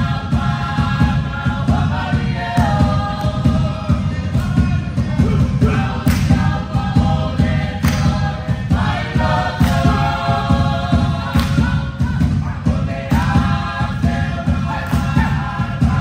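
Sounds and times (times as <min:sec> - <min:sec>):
dense low beat: 0:00.0 - 0:16.0
group singing in harmony: 0:00.0 - 0:16.0.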